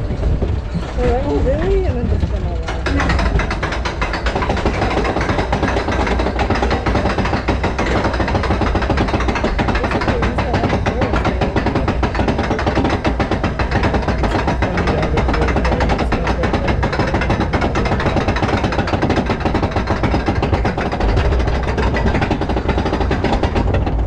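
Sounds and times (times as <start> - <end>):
roller coaster rumbling and rattling: 0.0 - 24.0.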